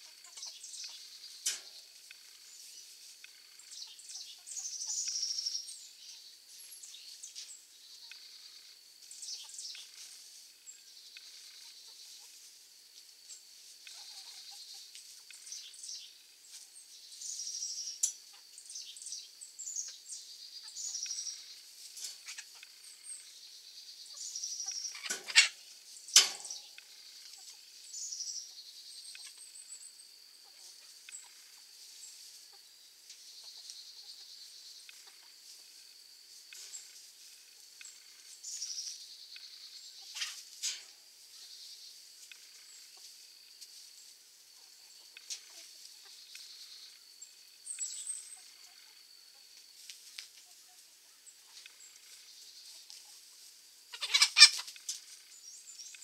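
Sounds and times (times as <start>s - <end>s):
chickens clucking: 0.0s - 10.5s, 11.2s - 15.9s, 16.5s - 18.8s, 19.8s - 23.1s, 24.1s - 29.6s, 30.4s - 39.0s, 39.9s - 47.0s, 47.7s - 55.3s.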